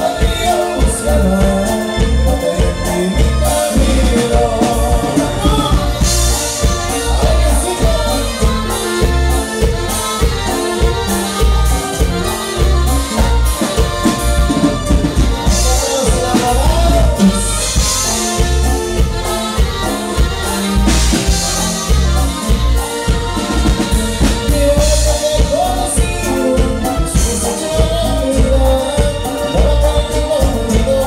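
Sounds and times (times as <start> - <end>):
accordion: 0.0 - 31.0
drum and bass beat: 0.0 - 31.0
person singing: 0.0 - 31.0.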